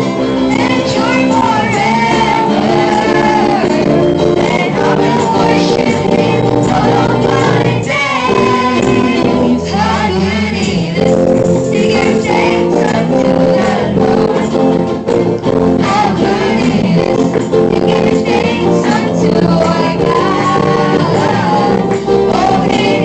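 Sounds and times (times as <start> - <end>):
acoustic guitar: 0.0 - 23.0
electric guitars: 0.0 - 23.0
people singing into microphones: 0.0 - 23.0.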